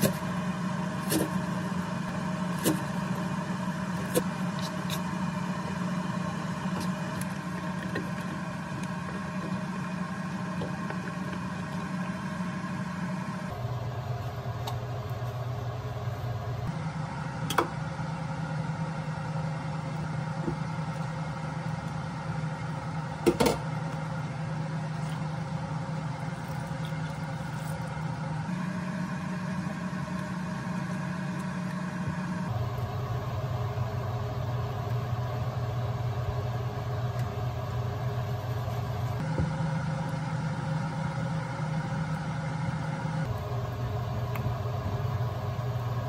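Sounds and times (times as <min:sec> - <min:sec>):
appliance humming: 0:00.0 - 0:46.0.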